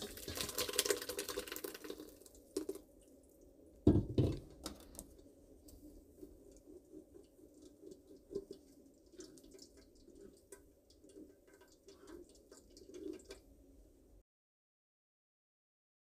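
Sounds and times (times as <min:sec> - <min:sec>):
low steady hum: 0:01.2 - 0:14.2.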